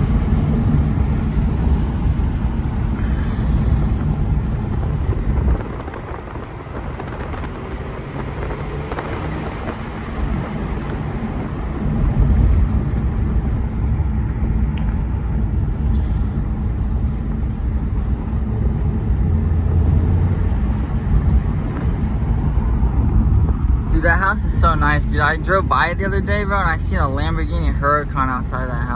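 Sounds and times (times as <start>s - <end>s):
car engine drone: 0.0s - 28.9s
road noise: 0.0s - 28.9s.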